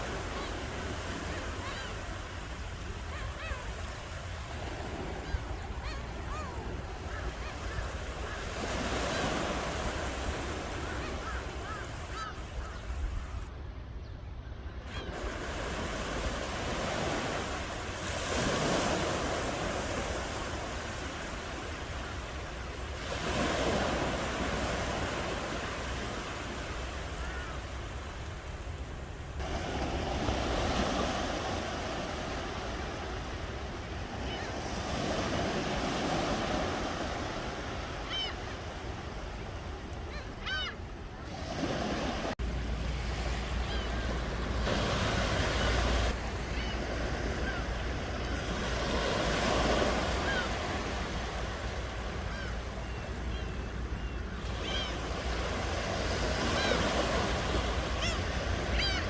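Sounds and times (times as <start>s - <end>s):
ocean surf washing: 0.0s - 13.5s, 14.9s - 59.0s
waves breaking: 0.0s - 13.5s, 14.9s - 59.0s.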